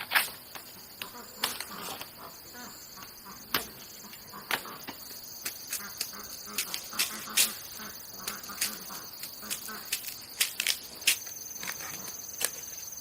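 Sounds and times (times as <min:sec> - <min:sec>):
high-pitched insect chirring: 0:00.2 - 0:13.0.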